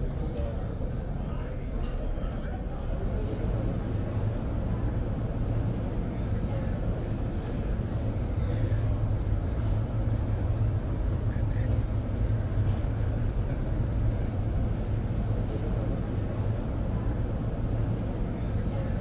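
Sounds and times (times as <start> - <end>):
faint indistinct voices: 0.0 - 19.0
low crowd rumble: 0.0 - 19.0.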